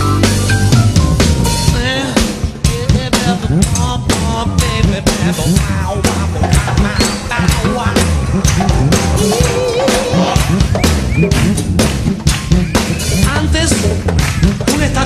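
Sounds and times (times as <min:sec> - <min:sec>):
drum kit beat: 0:00.0 - 0:15.0
live rock band playing: 0:00.0 - 0:15.0.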